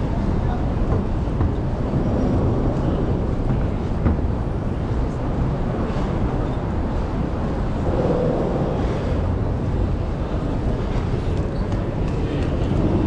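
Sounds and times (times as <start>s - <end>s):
street noise: 0.0s - 13.0s
traffic rumble: 0.0s - 13.0s.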